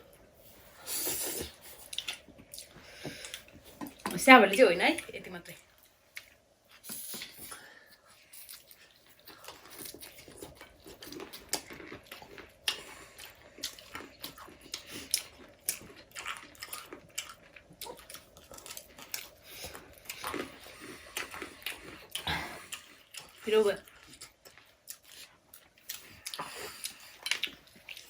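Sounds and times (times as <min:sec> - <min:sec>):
people chewing with mouth smacks: 0:00.0 - 0:04.2, 0:05.0 - 0:28.0.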